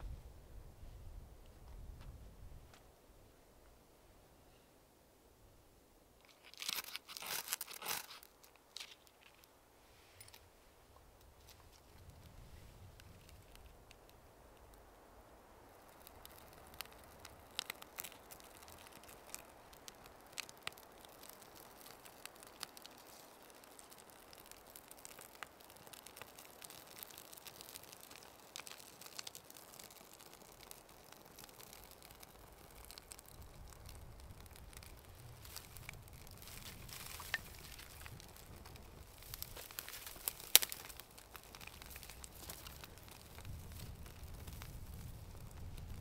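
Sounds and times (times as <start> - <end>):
wood fire crackling: 6.1 - 46.0
fire popping: 6.2 - 9.6, 10.2 - 46.0.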